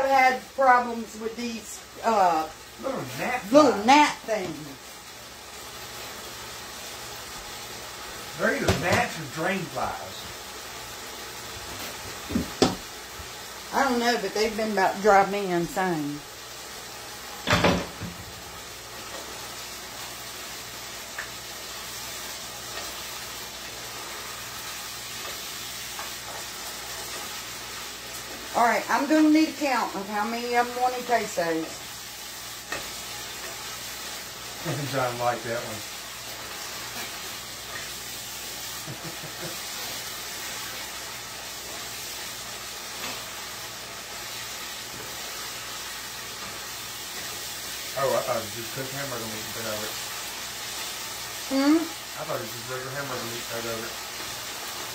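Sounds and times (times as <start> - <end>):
meat sizzling in a pot: 0.0 - 54.9.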